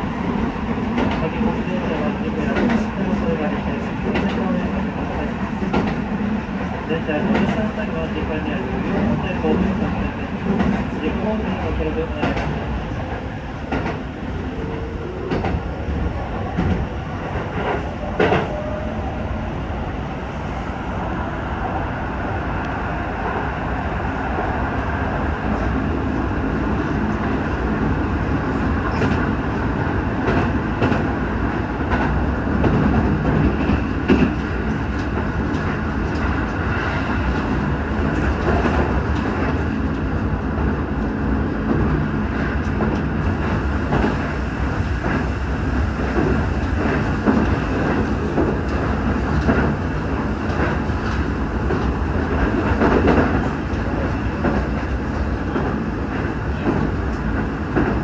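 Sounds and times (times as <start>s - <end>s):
wheels rumbling on rails: 0.0s - 58.0s.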